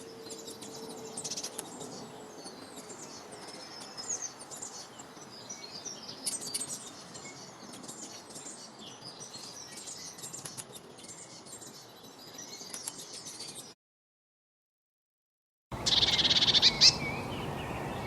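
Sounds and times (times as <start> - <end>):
outdoor background noise: 0.0 - 13.8, 15.7 - 18.0
small birds chirping: 0.0 - 13.8, 15.8 - 18.0.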